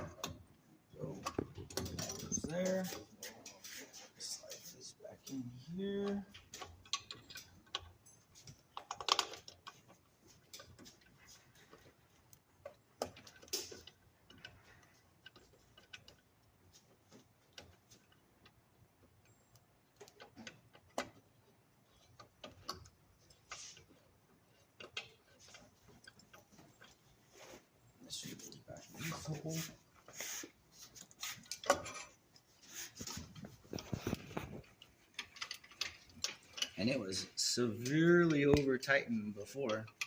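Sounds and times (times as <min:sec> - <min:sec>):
parts clicking and clattering: 0:00.0 - 0:40.0.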